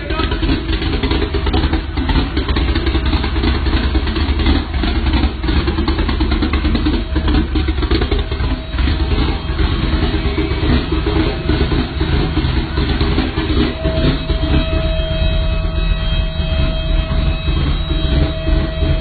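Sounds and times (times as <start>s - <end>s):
vehicle engine exhaust rumbling: 0.0s - 19.0s.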